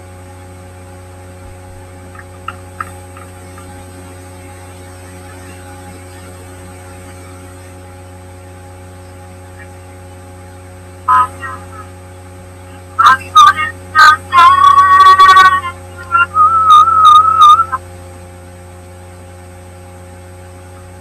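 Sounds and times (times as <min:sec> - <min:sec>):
high steady buzzing tones: 0:00.0 - 0:21.0
low electrical hum: 0:00.0 - 0:21.0.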